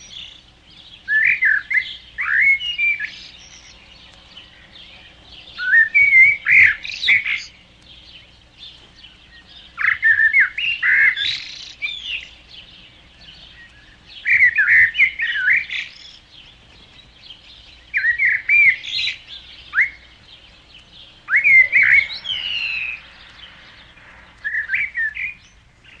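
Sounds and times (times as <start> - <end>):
songbirds whistling: 0.0 - 26.0.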